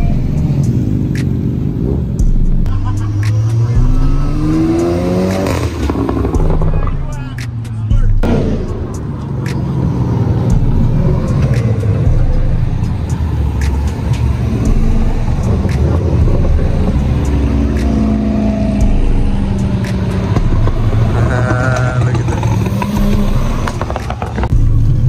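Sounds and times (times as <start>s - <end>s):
cars driving past: 0.0s - 25.0s
exhaust rumble: 0.0s - 25.0s.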